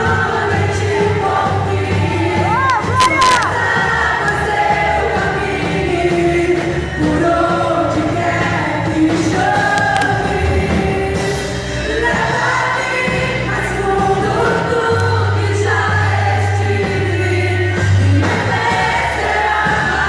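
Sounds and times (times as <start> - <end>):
group singing praise song: 0.0 - 20.0
instrumental backing: 0.0 - 20.0.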